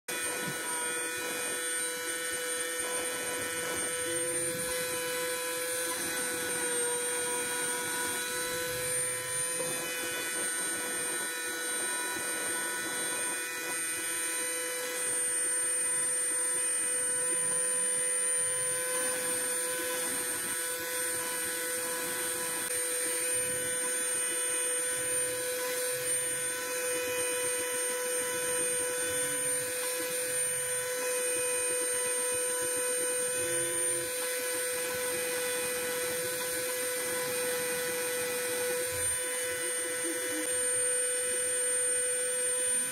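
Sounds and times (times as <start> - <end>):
bit cutting acrylic sheet: 0.1 - 42.9
router spindle whining: 0.1 - 42.9.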